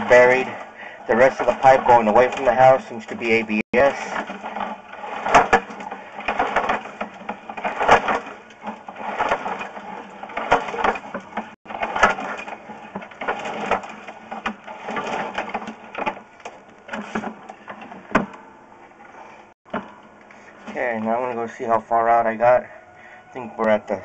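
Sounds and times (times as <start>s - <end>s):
cable scraping and rattling in pipe: 0.0s - 22.7s.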